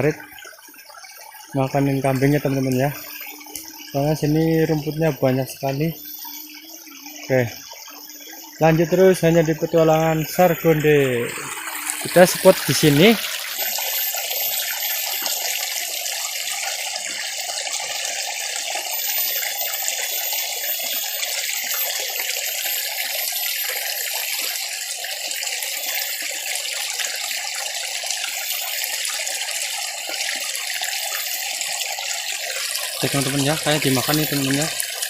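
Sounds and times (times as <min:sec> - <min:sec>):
flowing stream water: 0:00.0 - 0:35.0.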